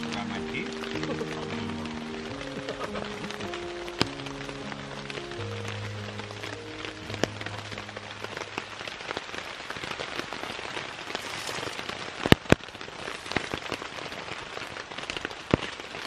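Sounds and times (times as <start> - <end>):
rain pattering on a tarp: 0.0 - 16.0.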